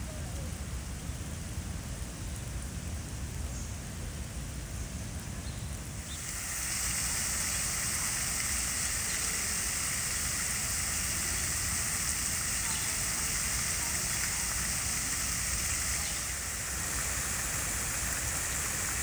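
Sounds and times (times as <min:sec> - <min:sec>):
fountain water splashing: 0:00.0 - 0:19.0
rain falling on pavement: 0:00.0 - 0:19.0.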